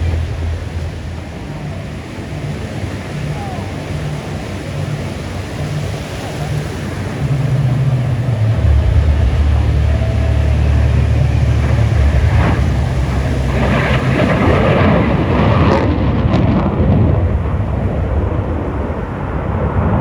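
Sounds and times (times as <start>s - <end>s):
aircraft flying past: 0.0s - 2.8s, 6.1s - 20.0s.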